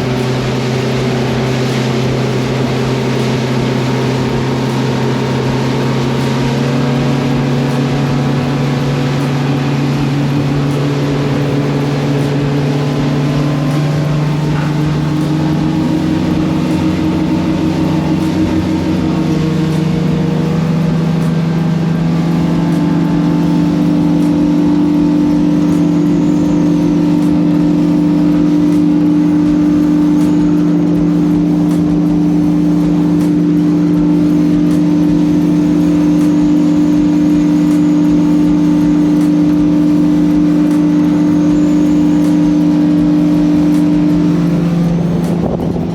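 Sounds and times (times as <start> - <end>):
motorboat engine running: 0.0 - 45.9.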